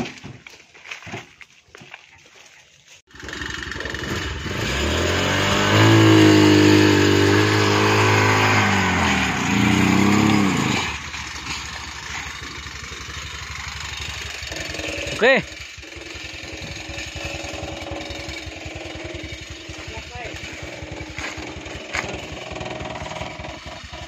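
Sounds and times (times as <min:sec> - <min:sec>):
cargo cart engine revving: 0:03.1 - 0:24.0.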